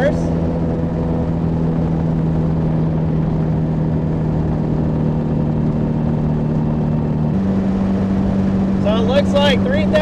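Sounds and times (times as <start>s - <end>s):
car engine pulling uphill: 0.0s - 10.0s
road and wind hiss: 0.0s - 10.0s.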